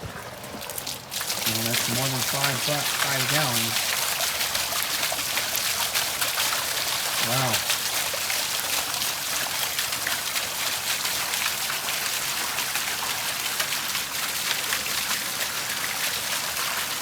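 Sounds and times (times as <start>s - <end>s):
water pouring into a bucket: 0.0s - 17.0s.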